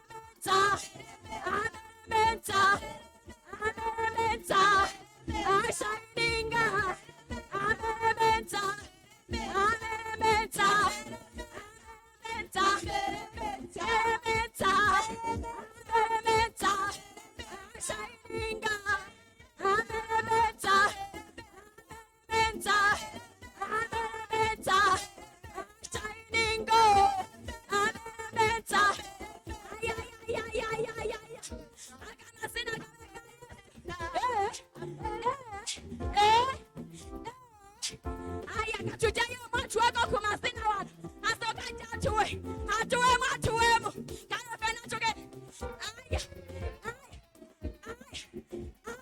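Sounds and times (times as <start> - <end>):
worship singing with music: 0.0 - 49.0.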